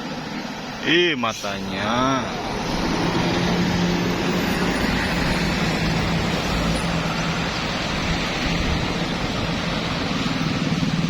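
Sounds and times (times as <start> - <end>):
road traffic passing: 0.0 - 11.0
vehicle engine humming: 0.0 - 11.0.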